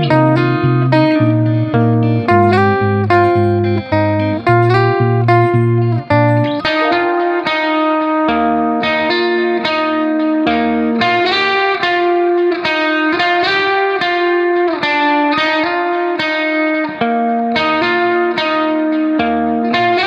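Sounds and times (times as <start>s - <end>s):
plucked guitar melody with effects: 0.0s - 20.0s.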